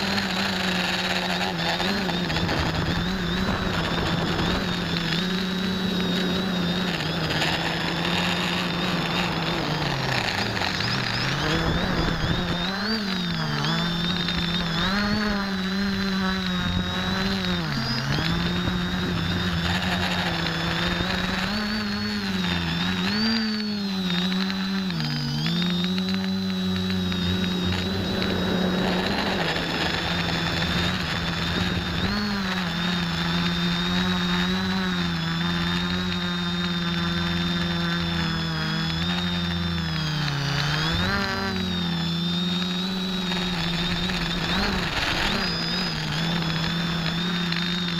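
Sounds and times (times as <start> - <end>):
drone motors and propellers whining: 0.0 - 47.9.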